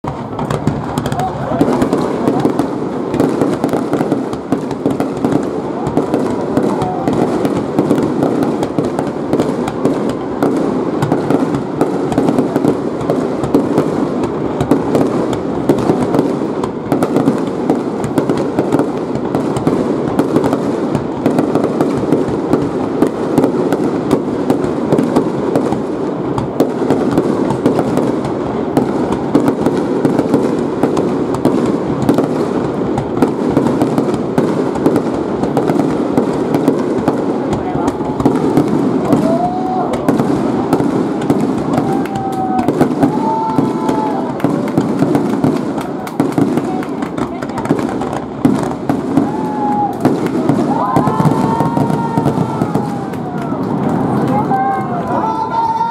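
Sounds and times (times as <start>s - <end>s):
fireworks booming and cracking: 0.0s - 55.9s.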